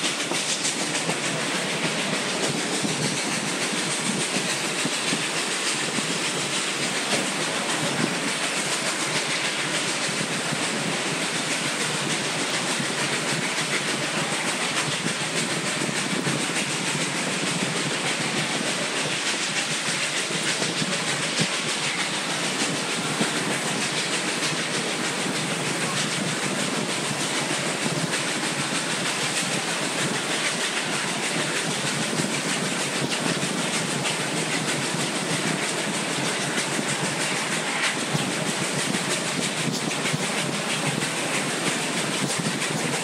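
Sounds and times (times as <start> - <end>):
train cars clattering over rails: 0.0 - 43.0.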